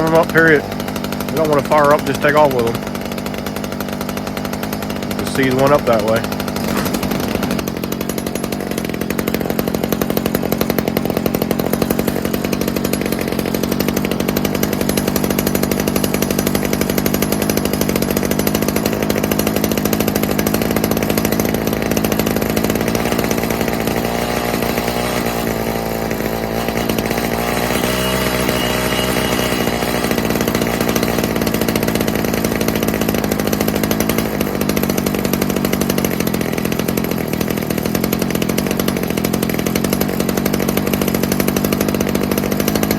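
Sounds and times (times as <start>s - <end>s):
hedge trimmer engine running: 0.0s - 42.9s.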